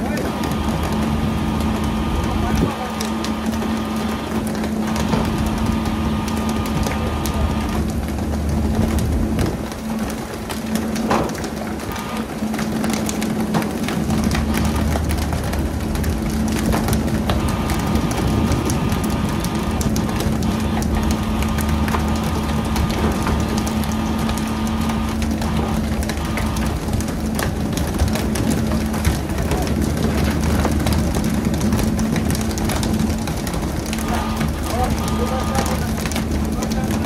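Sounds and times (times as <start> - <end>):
boat engine drone: 0.0 - 37.0.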